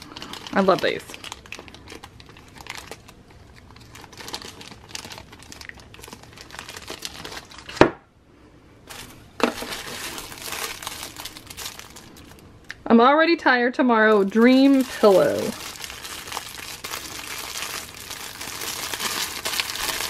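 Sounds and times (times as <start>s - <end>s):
thin plastic crinkling: 0.0s - 7.8s, 8.9s - 12.7s, 14.0s - 20.0s.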